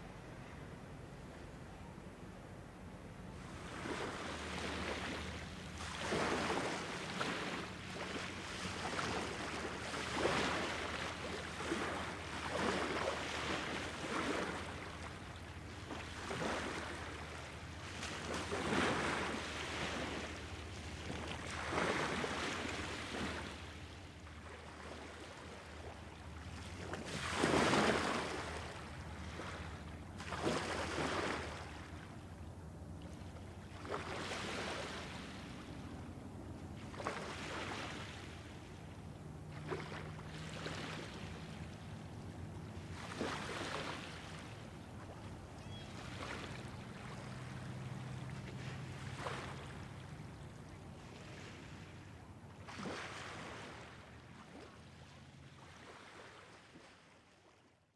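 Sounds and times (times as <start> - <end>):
lake water lapping: 3.4 - 36.0, 36.8 - 57.7.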